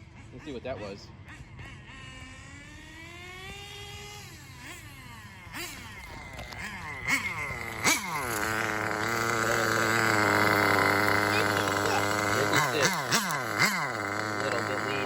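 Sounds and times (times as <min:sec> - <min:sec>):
small rc car engine revving: 0:00.0 - 0:15.0.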